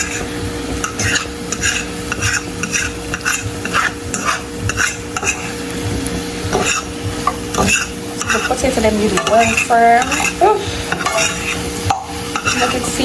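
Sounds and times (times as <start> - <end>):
utensil scraping a pot: 0.0 - 5.7, 6.5 - 13.0
food sizzling in oil: 0.0 - 13.0.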